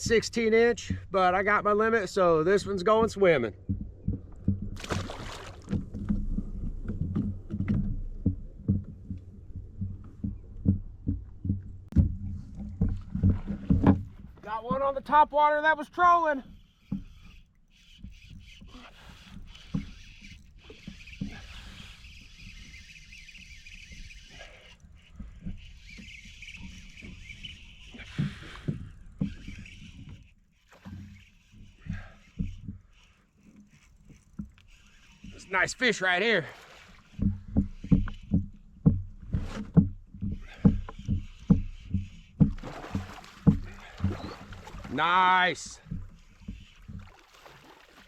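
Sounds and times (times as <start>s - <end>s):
water sloshing against hull: 0.0s - 48.0s.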